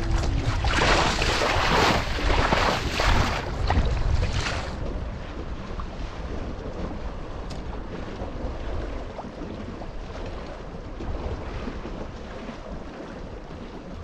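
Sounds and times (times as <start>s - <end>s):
steady low rumble: 0.0s - 14.0s
water splashing against hull: 0.0s - 14.0s
wind buffeting microphone: 0.0s - 14.0s.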